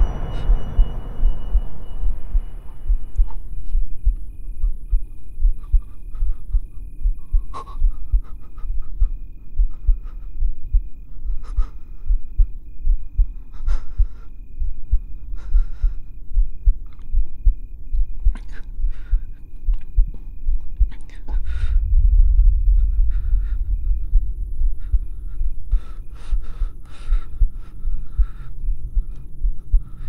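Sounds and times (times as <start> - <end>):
faint pulsing high tone: 0.0 - 30.0
heartbeat thumps: 0.0 - 30.0.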